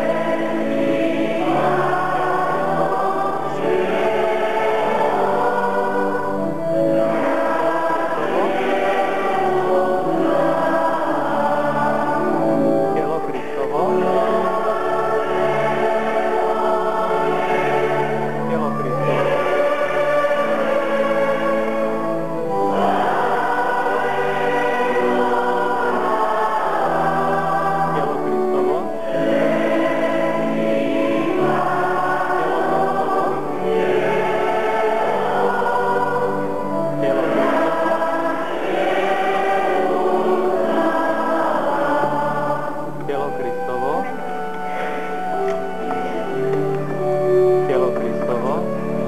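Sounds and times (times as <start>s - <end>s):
choir singing a slow hymn: 0.0s - 49.0s.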